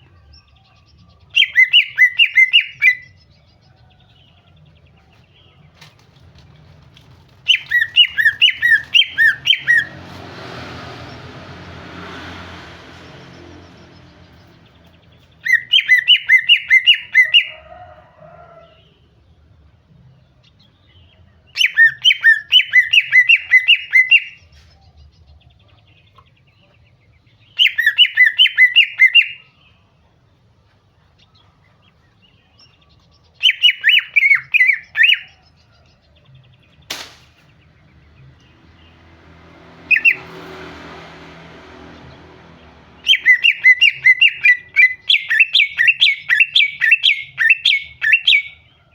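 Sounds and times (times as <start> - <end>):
bird chirping calls: 0.0 - 18.9, 20.3 - 48.9.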